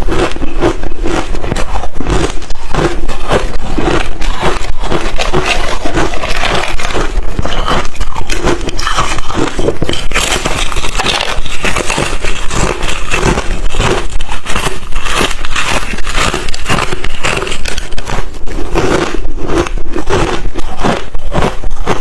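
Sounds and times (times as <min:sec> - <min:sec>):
ice chips being chewed: 0:00.0 - 0:22.0.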